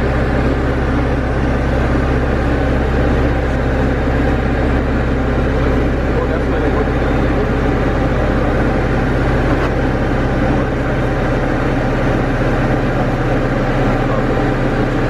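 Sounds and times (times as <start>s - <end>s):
aircraft engine droning in cockpit: 0.0s - 15.0s.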